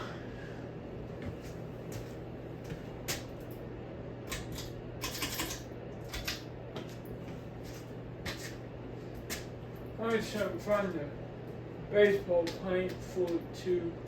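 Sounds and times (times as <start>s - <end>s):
ceiling fan motor hum: 0.0s - 14.0s.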